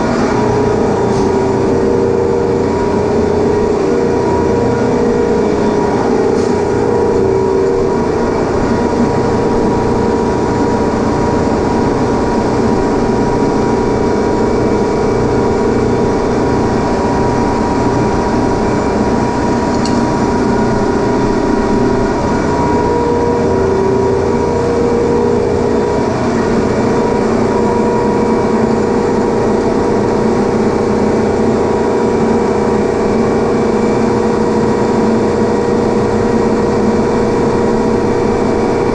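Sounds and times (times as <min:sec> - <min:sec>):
machinery drone: 0:00.0 - 0:38.9.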